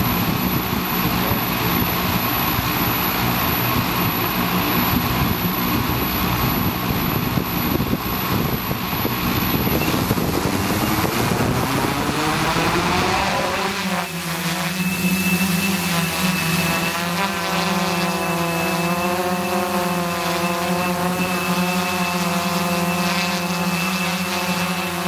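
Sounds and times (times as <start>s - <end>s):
drone motors and propellers humming: 0.0s - 25.0s.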